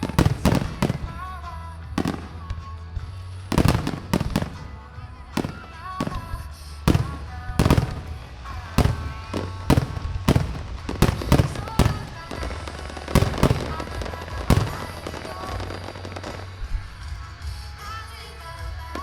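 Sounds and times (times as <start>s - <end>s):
fireworks bursting: 0.0s - 17.8s.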